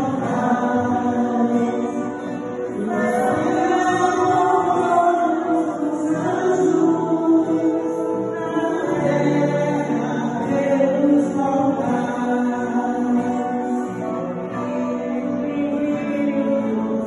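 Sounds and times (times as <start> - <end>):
woman singing into a microphone: 0.0 - 17.0
women singing a hymn: 0.0 - 17.0.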